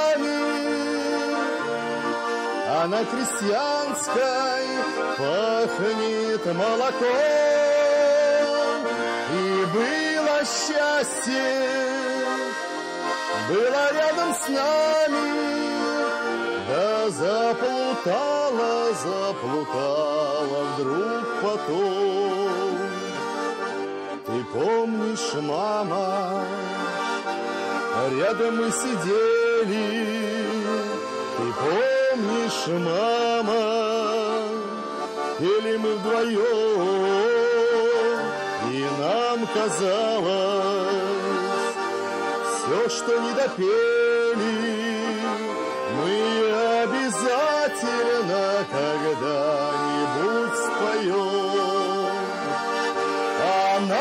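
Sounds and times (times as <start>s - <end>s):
accompanying accordion: 0.0s - 54.0s
button accordion playing folk song: 0.0s - 54.0s
man singing: 0.0s - 54.0s.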